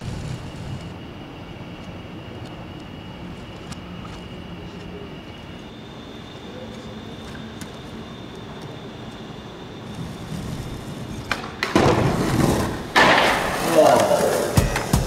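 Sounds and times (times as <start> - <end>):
skateboard wheels rolling: 0.0 - 5.8, 6.6 - 15.0.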